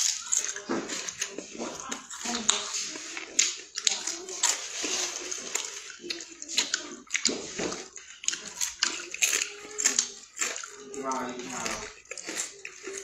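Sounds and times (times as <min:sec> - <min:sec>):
crunching potato chips: 0:00.0 - 0:13.0.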